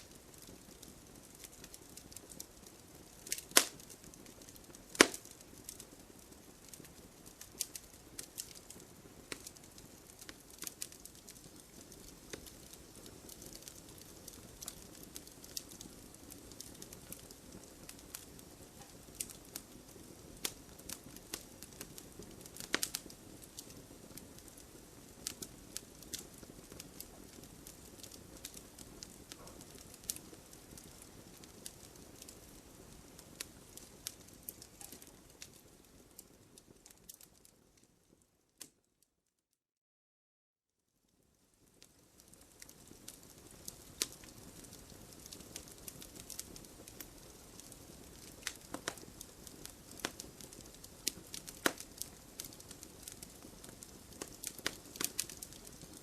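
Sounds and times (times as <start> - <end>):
rumble of flame: 0.0 - 38.3, 41.1 - 56.0
logs crackling and popping: 0.0 - 38.8, 41.4 - 56.0.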